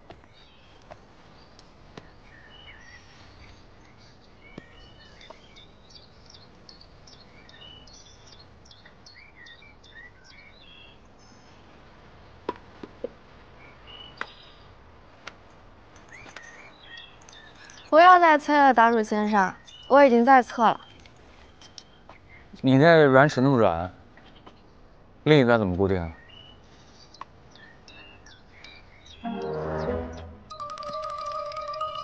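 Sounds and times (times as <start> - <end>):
small birds chirping: 0.0 - 12.4, 13.5 - 29.4
faint outdoor background: 0.0 - 32.0.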